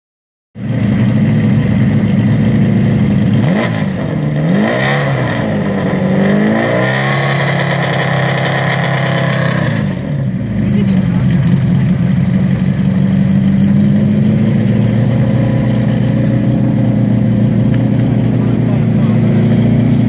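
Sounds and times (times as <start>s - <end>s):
car engine revving: 0.6s - 20.0s.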